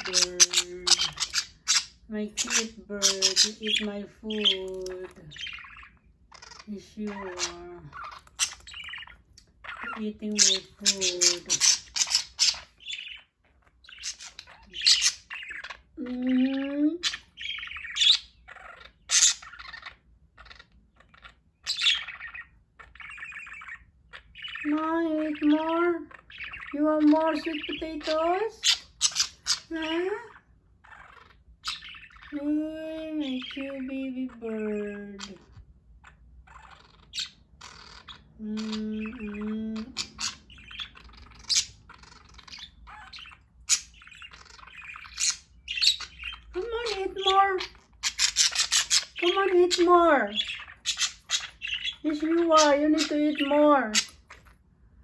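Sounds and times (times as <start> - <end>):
budgerigars chirping and chattering: 0.0 - 55.0
low steady hum: 0.0 - 55.0.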